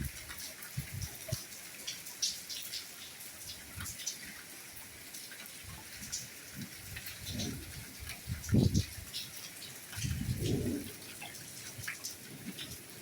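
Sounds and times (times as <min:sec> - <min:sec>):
dull low drip: 0:00.0 - 0:13.0
raindrops pattering and dripping: 0:00.0 - 0:13.0
soft rainfall: 0:00.0 - 0:13.0.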